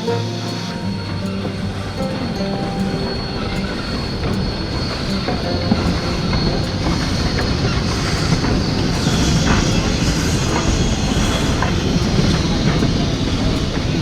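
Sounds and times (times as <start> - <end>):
train rumbling on rails: 0.0 - 14.0
train wheels clattering: 0.0 - 14.0.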